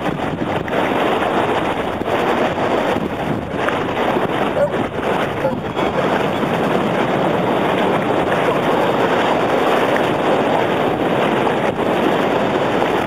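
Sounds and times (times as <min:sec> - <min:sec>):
small waves washing on sand: 0:00.0 - 0:13.0
wind buffeting microphone: 0:00.0 - 0:13.0.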